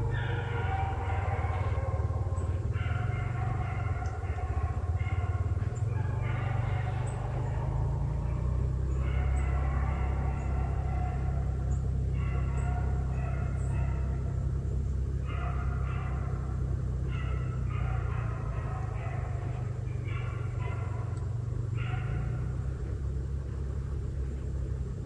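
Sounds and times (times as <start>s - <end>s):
dogs baying and howling: 0.0s - 25.0s
steady low rumble: 0.0s - 25.0s.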